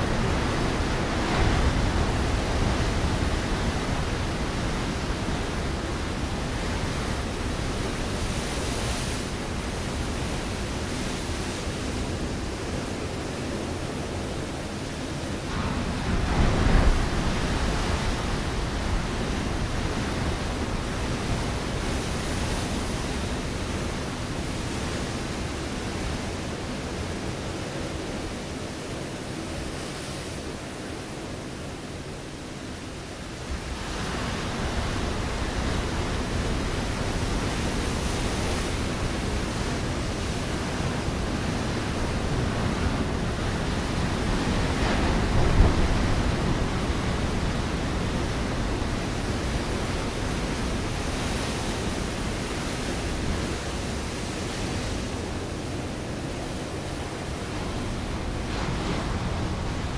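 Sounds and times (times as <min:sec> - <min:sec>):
ocean waves on rocky shore: 0:00.0 - 0:59.9.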